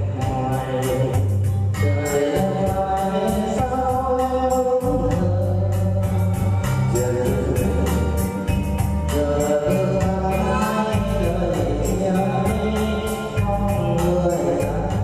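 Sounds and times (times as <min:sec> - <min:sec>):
electronic keyboard backing: 0:00.0 - 0:15.0
heavy bass line: 0:00.0 - 0:15.0
person singing: 0:00.0 - 0:15.0.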